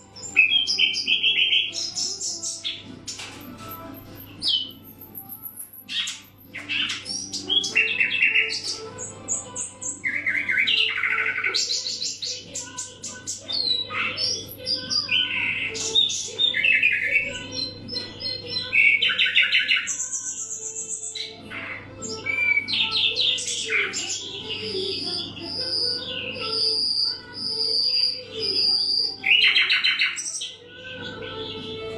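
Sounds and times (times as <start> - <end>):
nightingale singing: 0.2 - 30.6.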